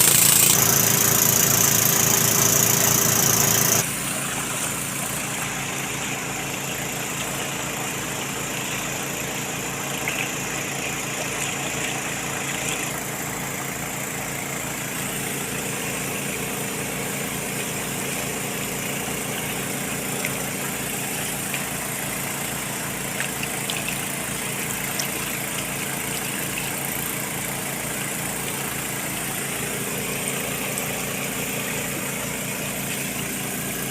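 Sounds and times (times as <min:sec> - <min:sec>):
small engine running steadily: 0:00.0 - 0:33.9.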